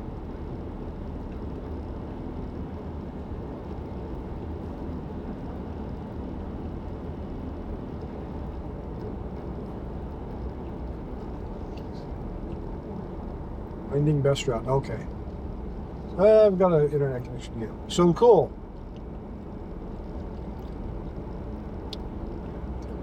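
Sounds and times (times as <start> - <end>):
car road and engine hum: 0.0 - 23.0.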